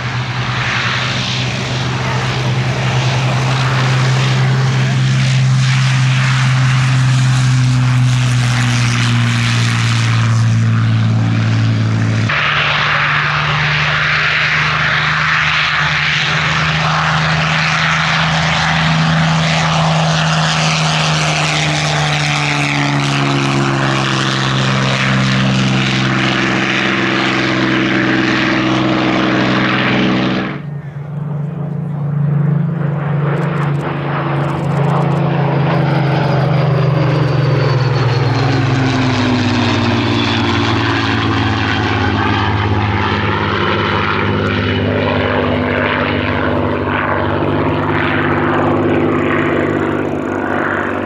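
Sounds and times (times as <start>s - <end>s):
propeller aircraft engine running: 0.0s - 51.0s.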